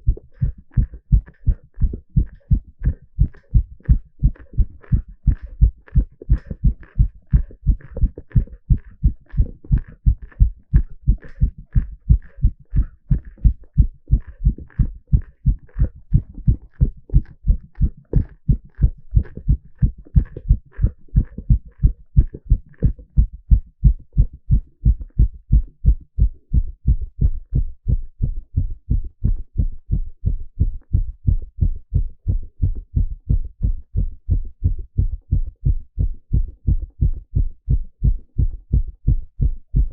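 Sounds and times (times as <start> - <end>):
heart beating fast: 0.0 - 39.9.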